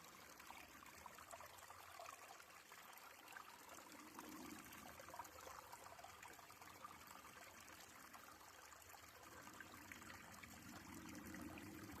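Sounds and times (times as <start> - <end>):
brook trickling over stones: 0.0 - 12.0.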